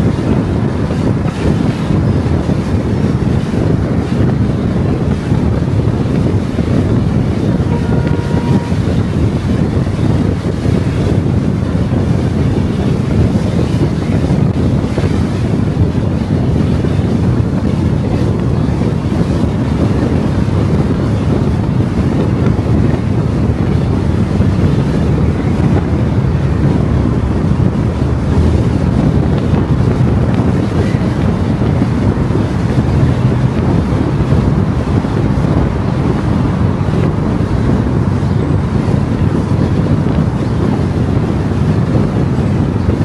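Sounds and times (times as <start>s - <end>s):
car tyre and wind rumble: 0.0s - 43.0s.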